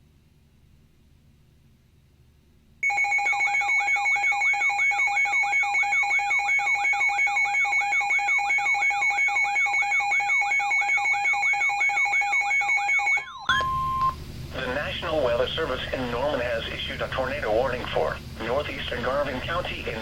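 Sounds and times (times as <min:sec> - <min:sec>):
weather radio alarm warbling: 0:02.8 - 0:20.0.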